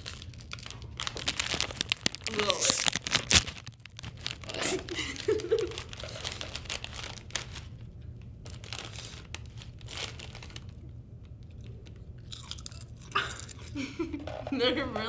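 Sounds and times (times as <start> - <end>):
crinkly chip bag handled: 0.0 - 13.9.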